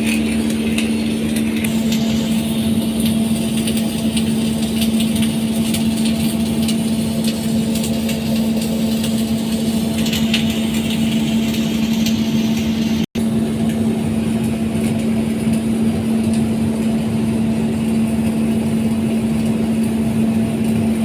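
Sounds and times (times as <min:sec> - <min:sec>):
arc welding crackling sizzle: 0:00.0 - 0:21.0
constant low hum: 0:00.0 - 0:21.0.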